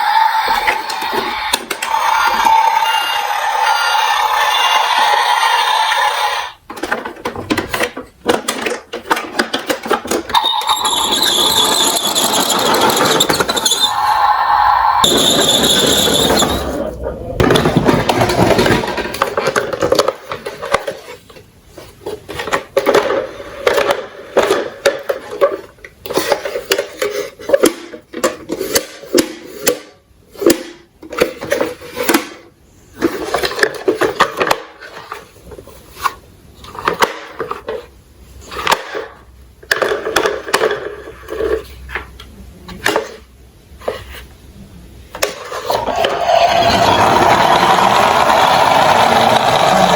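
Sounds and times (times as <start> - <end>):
toy trucks rolling and clattering: 0.0 - 42.1, 45.1 - 49.9.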